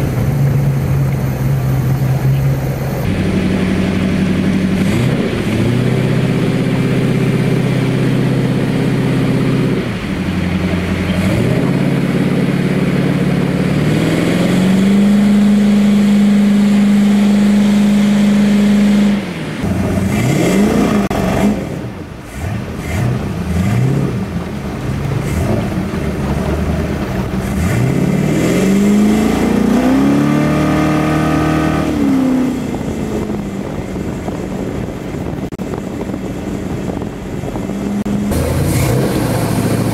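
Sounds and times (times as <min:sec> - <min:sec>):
boat engine revving: 0:00.0 - 0:39.9.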